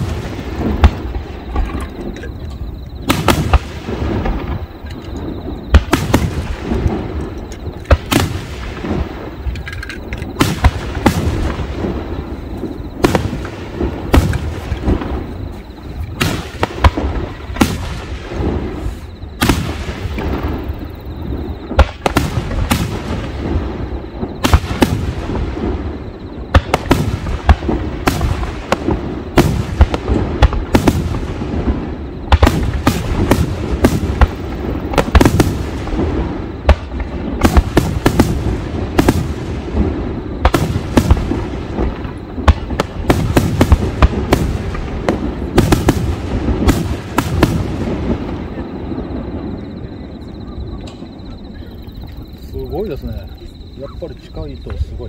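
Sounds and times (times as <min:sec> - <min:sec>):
fireworks bursting: 0:00.0 - 0:53.3.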